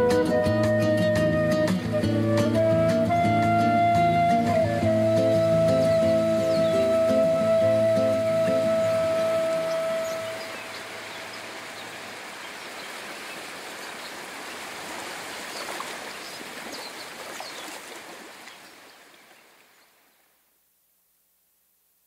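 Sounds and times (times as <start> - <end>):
running water rushing: 0.0 - 20.2.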